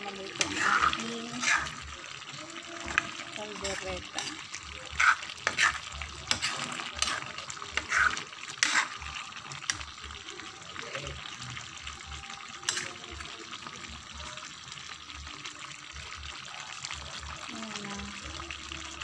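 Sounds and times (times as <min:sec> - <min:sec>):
sauce bubbling in a pan: 0:00.0 - 0:19.0.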